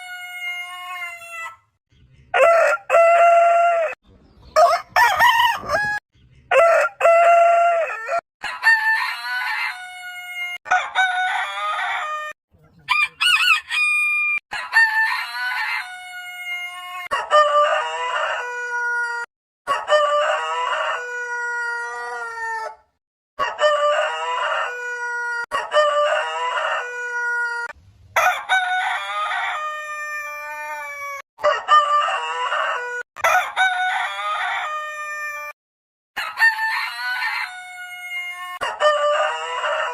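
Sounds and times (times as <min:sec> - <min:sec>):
roosters crowing: 0:00.0 - 0:01.7, 0:02.3 - 0:22.8, 0:23.4 - 0:35.6, 0:36.2 - 0:39.9.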